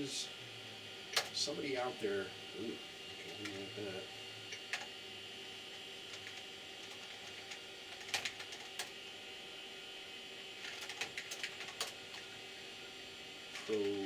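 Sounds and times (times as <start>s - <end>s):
computer hum: 0.0s - 14.0s.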